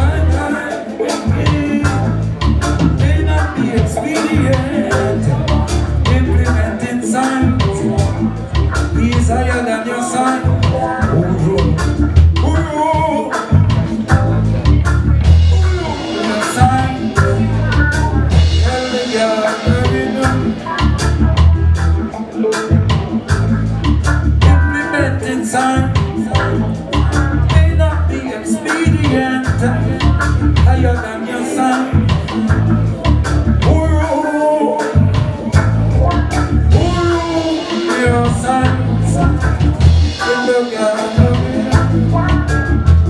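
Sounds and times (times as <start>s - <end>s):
heavy bass line: 0.0s - 43.0s
man singing: 0.0s - 43.0s
reggae band playing: 0.0s - 43.0s.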